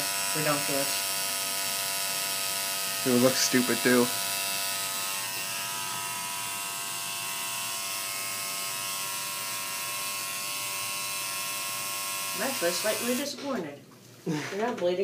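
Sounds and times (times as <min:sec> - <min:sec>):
tattoo machine buzzing: 0:00.0 - 0:13.3.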